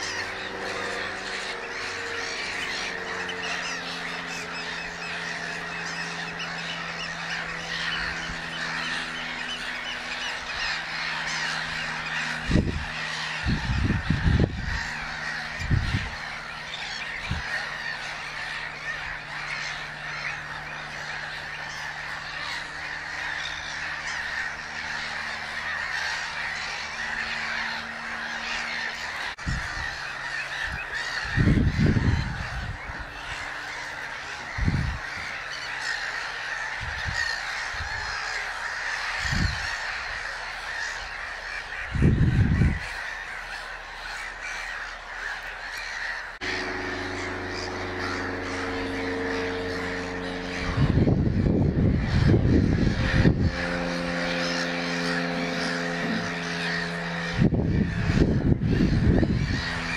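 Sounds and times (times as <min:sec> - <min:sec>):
birdsong: 0:00.0 - 0:59.9
geese honking: 0:00.0 - 0:59.9.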